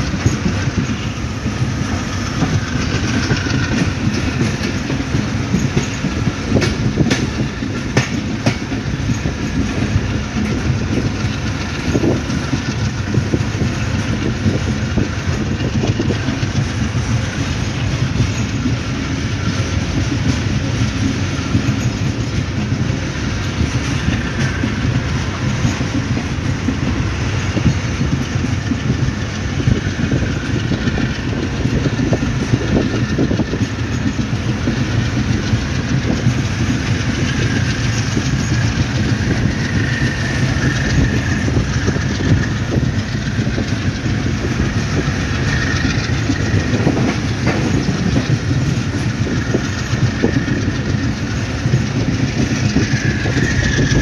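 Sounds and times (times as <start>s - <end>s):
train rumbling: 0.0s - 54.0s
wheels clattering over rail joints: 0.0s - 54.0s.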